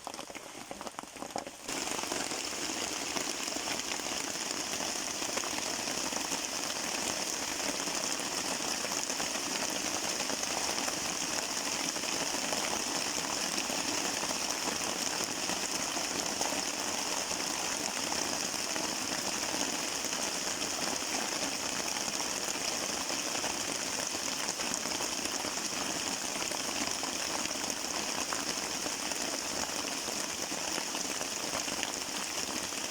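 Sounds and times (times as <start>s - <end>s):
steady rain falling: 0.1s - 32.9s.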